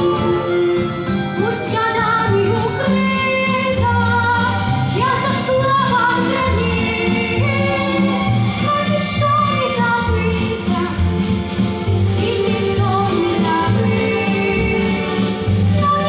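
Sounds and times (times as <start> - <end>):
instrumental accompaniment: 0.0 - 16.0
woman singing: 1.3 - 11.1, 12.1 - 16.0.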